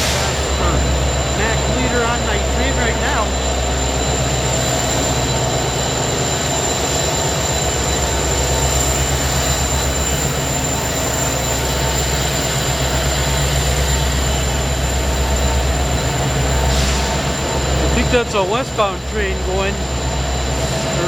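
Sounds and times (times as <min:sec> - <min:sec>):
train rumbling: 0:00.0 - 0:21.0
wheel and rail noise: 0:00.0 - 0:21.0.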